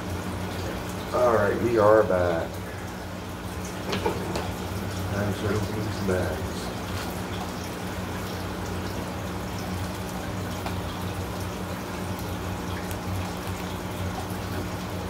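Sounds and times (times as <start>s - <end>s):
low electrical hum: 0.0s - 15.0s
water trickling: 0.0s - 15.0s.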